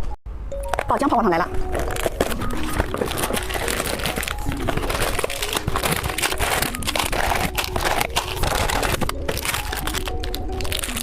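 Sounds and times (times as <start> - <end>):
plastic candy wrappers crinkling: 1.5 - 11.0.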